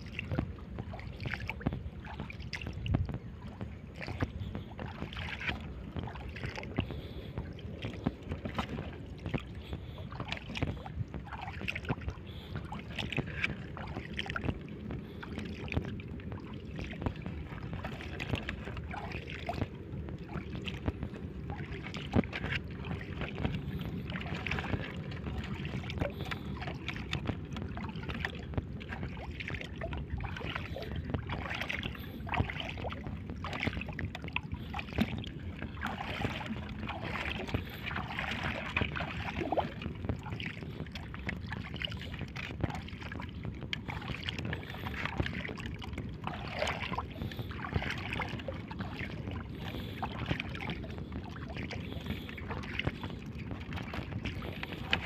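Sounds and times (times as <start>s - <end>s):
seawater splashing around wading: 0.0s - 55.0s.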